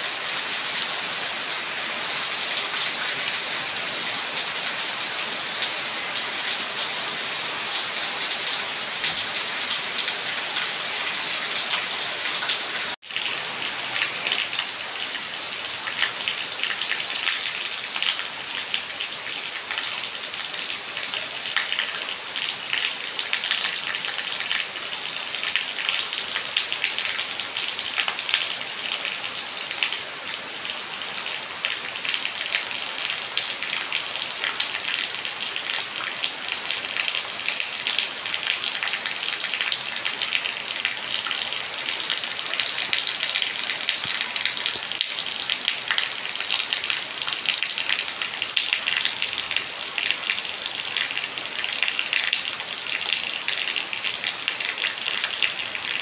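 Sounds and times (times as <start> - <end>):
rain on wet stone: 0.1 - 56.0.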